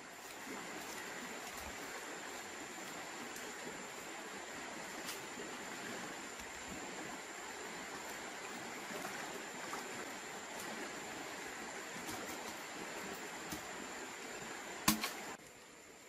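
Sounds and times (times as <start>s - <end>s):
river water rushing: 0.0s - 15.4s.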